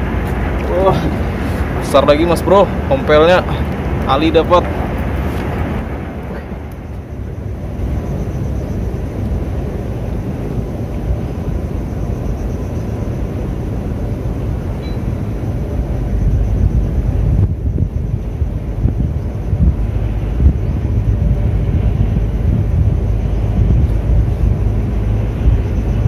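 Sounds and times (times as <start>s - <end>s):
low rumbling noise: 0.0s - 26.0s.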